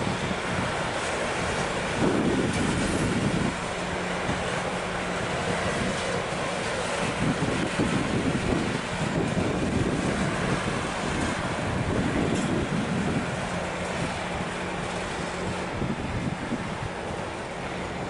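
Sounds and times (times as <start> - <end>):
train rolling past: 0.0 - 18.0
wind buffeting microphone: 0.0 - 18.0.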